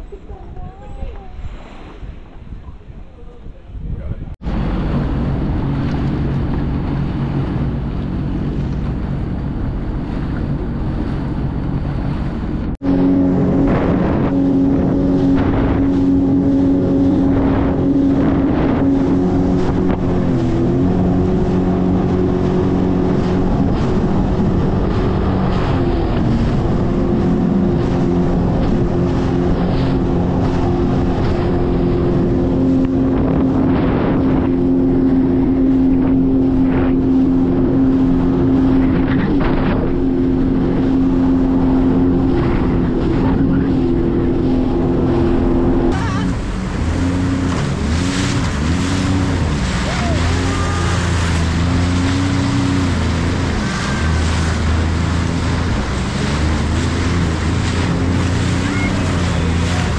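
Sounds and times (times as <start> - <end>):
jet ski engine running: 0.0 - 59.9
wind buffeting microphone: 0.0 - 59.9.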